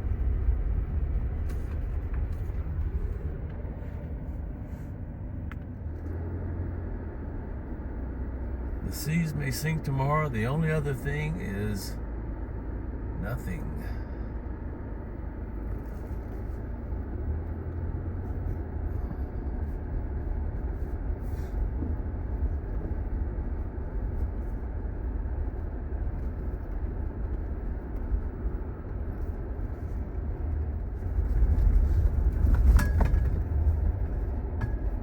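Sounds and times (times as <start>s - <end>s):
road rumble of driving car: 0.0s - 35.0s.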